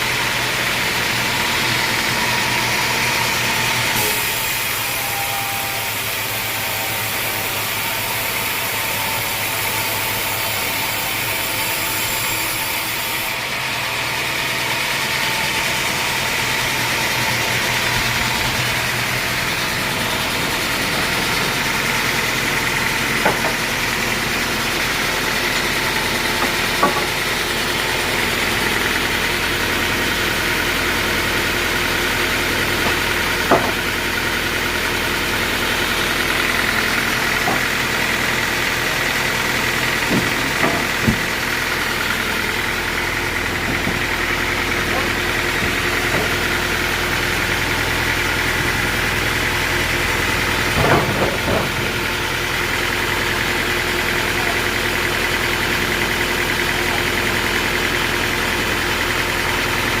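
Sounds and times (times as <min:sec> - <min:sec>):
sawmill running with whine: 0:00.0 - 1:00.0.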